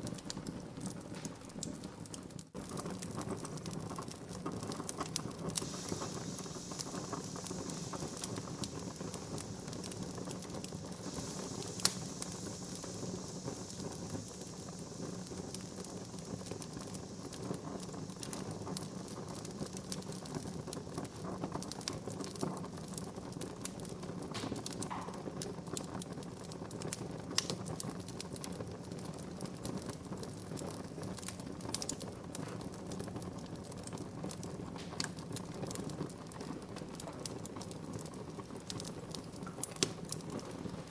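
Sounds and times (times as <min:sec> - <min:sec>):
sharp pops of fire: 0:00.0 - 0:40.9
wood fire crackling and hissing: 0:00.0 - 0:40.9.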